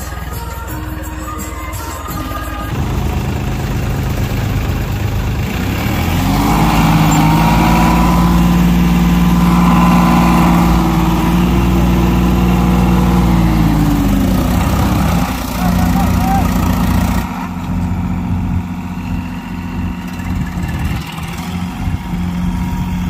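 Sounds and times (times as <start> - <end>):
tractor diesel engines straining: 0.0 - 23.0.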